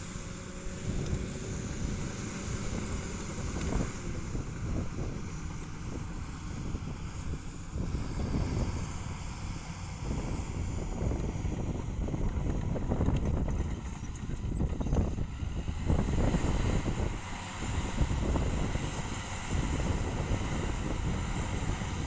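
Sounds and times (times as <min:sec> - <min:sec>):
bulldozer diesel engine: 0:00.0 - 0:22.0
wind buffeting microphone: 0:00.3 - 0:22.0.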